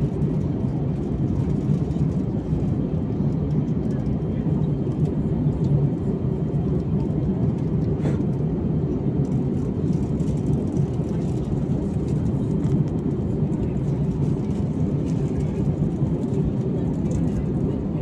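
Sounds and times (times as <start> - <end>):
aircraft cabin rumble: 0.0 - 18.0.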